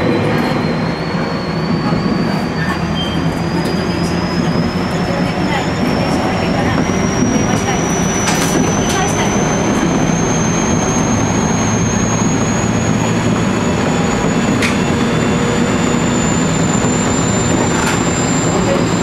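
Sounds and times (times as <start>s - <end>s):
electric train motor whine: 0.0s - 19.0s
wheel and rail rumble: 0.0s - 19.0s.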